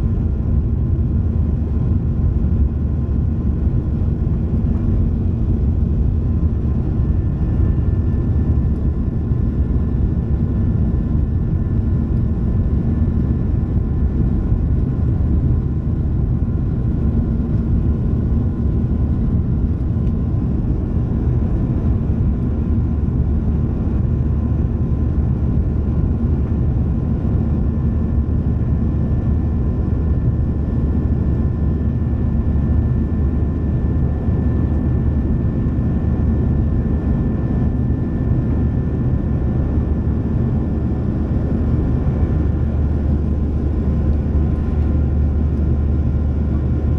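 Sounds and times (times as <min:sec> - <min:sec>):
jet engine and airflow rumble: 0:00.0 - 0:46.9.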